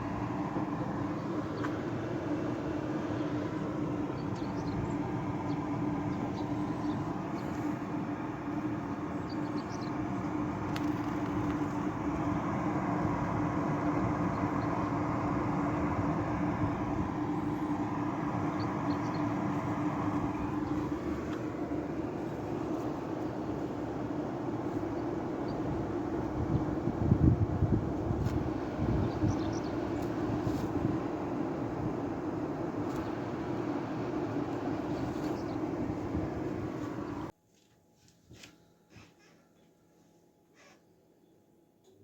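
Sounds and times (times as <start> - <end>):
air conditioner hum and fan: 0.0 - 42.0.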